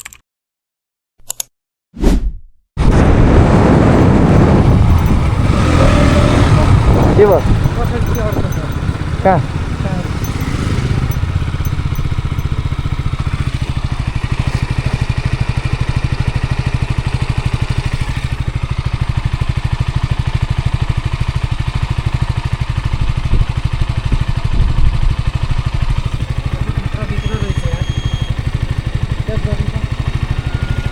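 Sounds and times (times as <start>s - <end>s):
motorcycle engine running: 3.2s - 30.9s.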